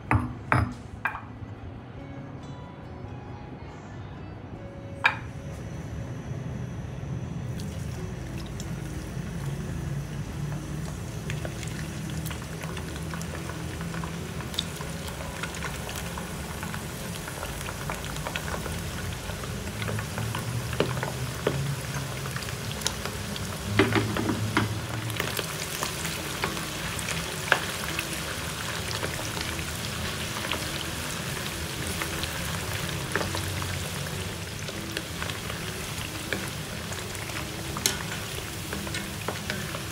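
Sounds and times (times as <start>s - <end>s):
meat sizzling in hot oil: 7.5s - 39.9s.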